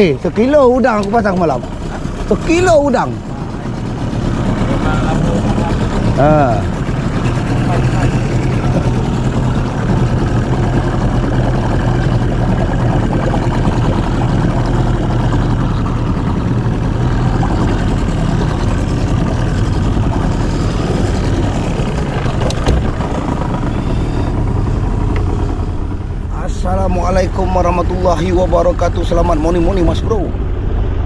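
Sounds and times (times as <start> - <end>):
outboard motor droning: 0.0 - 31.0.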